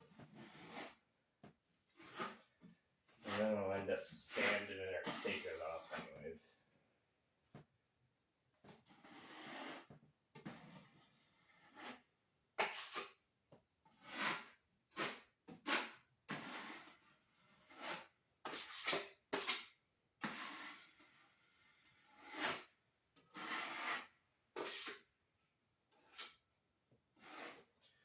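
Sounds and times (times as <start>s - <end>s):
putty knife scraping wall: 0.1s - 1.1s, 1.9s - 6.2s, 8.7s - 13.2s, 13.9s - 25.1s, 25.9s - 26.4s, 27.1s - 28.0s.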